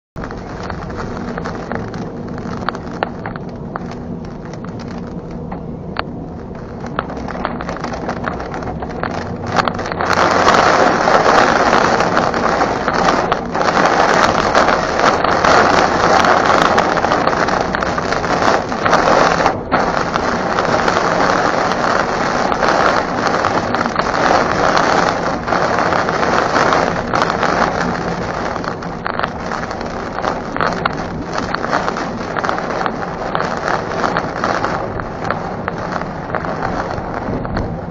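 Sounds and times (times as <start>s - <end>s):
heavy rain on a car: 0.0s - 37.9s.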